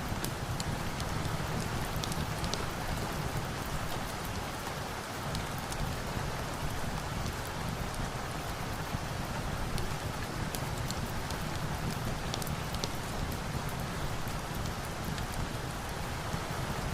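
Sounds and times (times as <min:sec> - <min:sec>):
steady rain falling: 0:00.0 - 0:16.9
wood fire crackling: 0:00.0 - 0:16.9.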